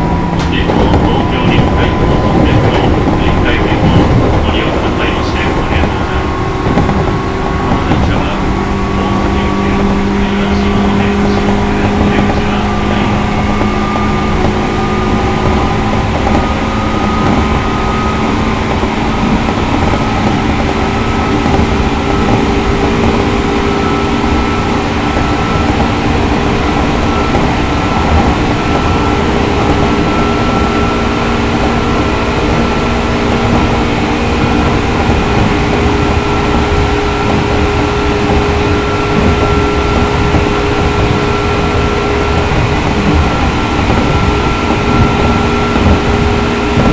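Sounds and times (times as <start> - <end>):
steady whining tones: 0.0 - 46.9
train wheels rumbling on rail: 0.0 - 46.9.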